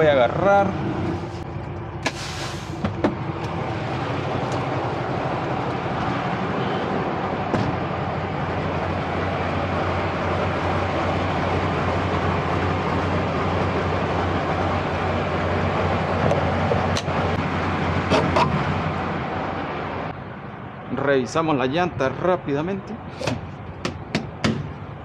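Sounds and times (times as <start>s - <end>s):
diesel truck engine idling: 0.0s - 20.8s.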